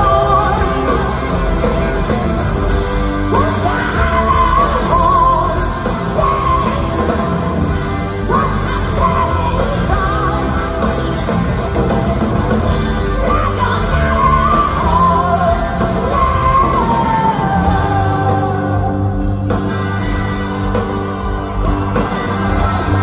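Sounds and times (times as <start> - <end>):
live rock band: 0.0 - 23.0.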